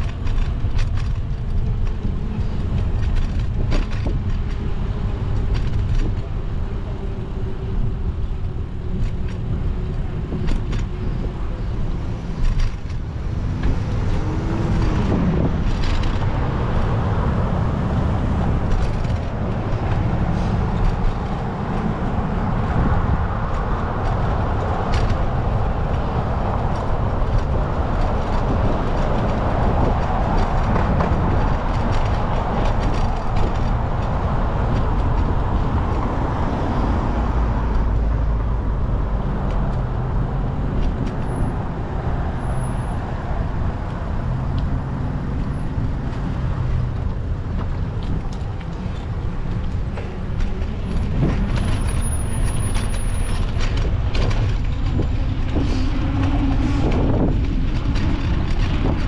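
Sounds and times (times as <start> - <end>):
cars and buses passing: 0.0 - 59.0
wind rumble on microphone: 0.0 - 59.0.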